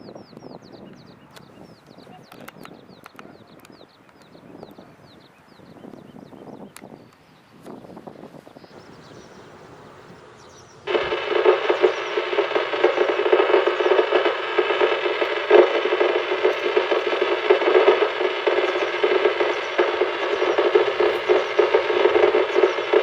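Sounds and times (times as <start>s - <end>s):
faint outdoor background: 0.0s - 23.0s.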